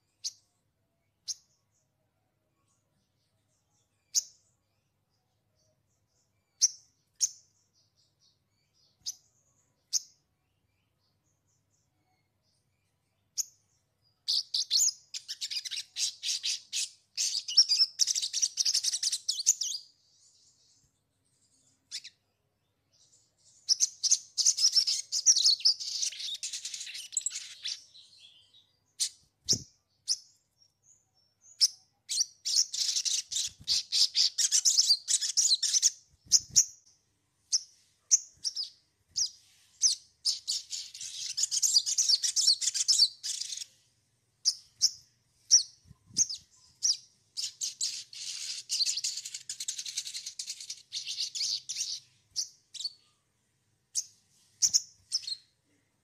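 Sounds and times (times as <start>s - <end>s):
bird chirping twitter: 0.0s - 43.8s, 44.4s - 53.2s, 53.9s - 55.6s.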